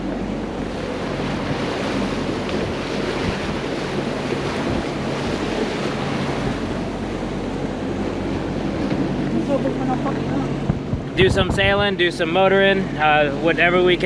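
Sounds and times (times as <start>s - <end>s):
diesel engine drone: 0.0s - 14.0s
water rushing past hull: 0.0s - 14.0s
wind buffeting microphone: 0.0s - 14.0s.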